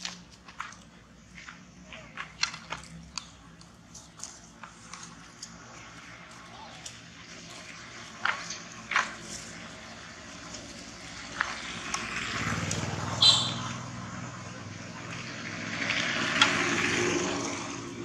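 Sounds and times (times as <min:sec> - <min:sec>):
outdoor background noise: 0:00.0 - 0:18.0
vehicle engine hum: 0:00.0 - 0:18.0.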